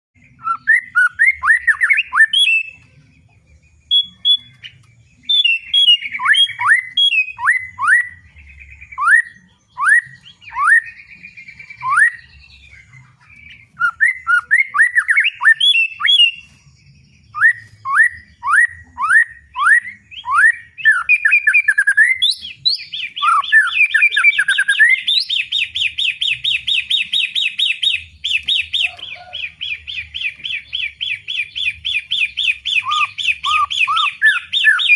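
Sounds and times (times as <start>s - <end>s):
bird whistling downward notes: 0.2s - 2.8s, 3.8s - 16.6s, 17.3s - 34.9s
bird fast trill: 0.2s - 34.9s.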